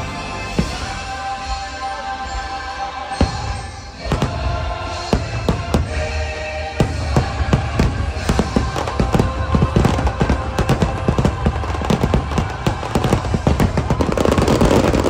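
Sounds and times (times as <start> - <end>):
fireworks bursting: 0.0 - 2.4, 3.1 - 15.0
loud show music: 0.0 - 15.0.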